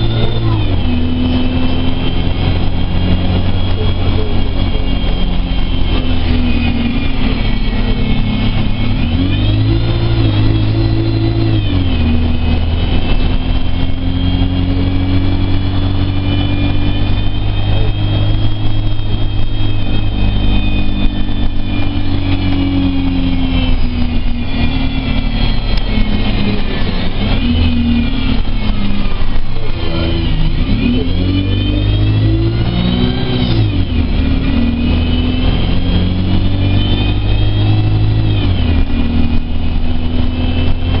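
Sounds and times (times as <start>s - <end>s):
bus engine drone: 0.0s - 41.0s
high engine whine: 0.0s - 41.0s.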